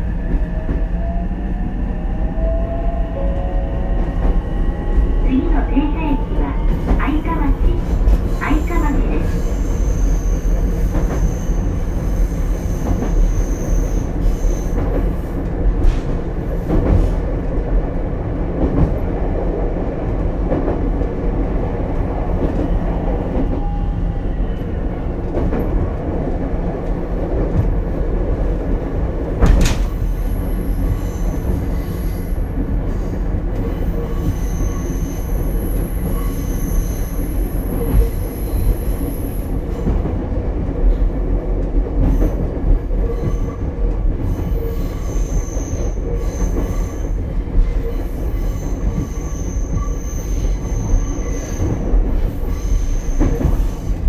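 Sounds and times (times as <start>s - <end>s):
railcar running hum: 0.0s - 54.0s
wheels rumbling on rail: 0.0s - 54.0s.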